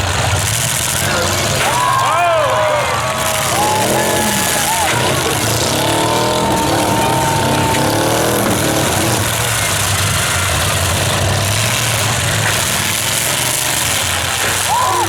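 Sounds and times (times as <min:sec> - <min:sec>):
car engines revving: 0:00.0 - 0:15.0
low engine drone: 0:02.8 - 0:15.0.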